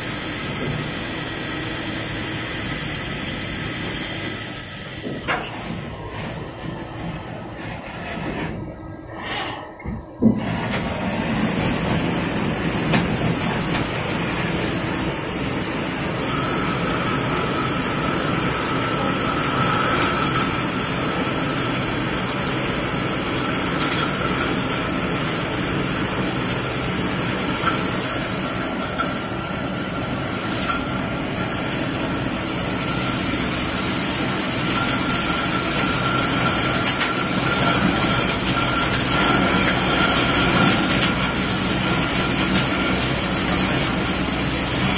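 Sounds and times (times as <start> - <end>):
lathe machine running: 0.0 - 8.3, 10.4 - 44.9
thin steady whine: 0.0 - 44.9.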